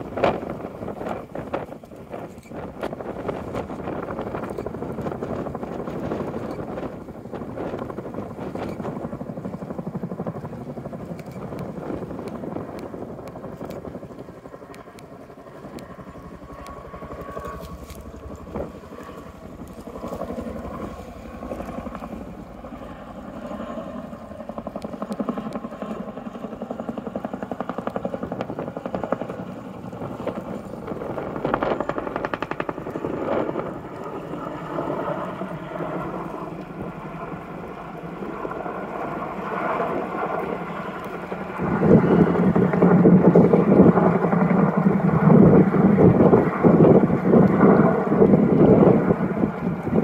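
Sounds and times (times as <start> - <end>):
helicopter rotor chop: 0.0 - 50.0.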